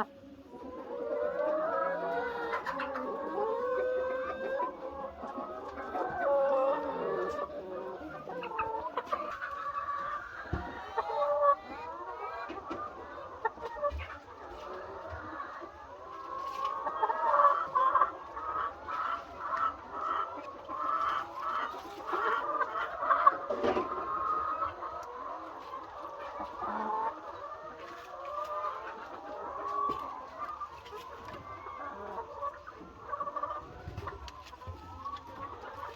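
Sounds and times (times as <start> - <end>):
hens clucking: 0.0 - 35.9.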